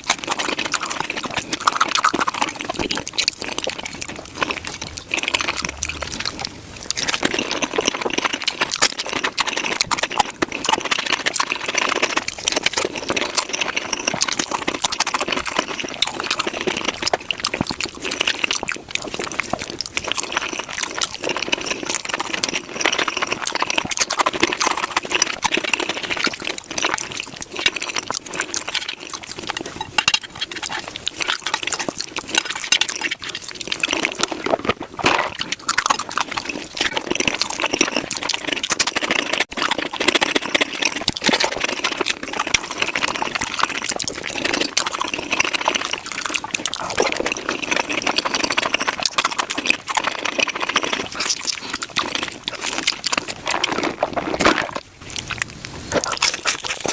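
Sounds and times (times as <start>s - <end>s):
chewing and crunching food: 0.0s - 56.9s.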